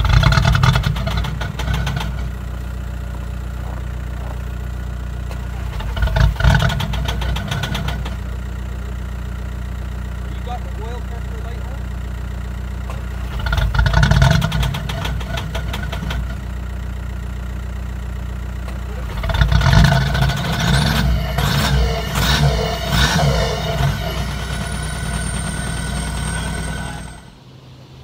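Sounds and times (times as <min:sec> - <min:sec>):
diesel engine idling and revving: 0:00.0 - 0:28.0.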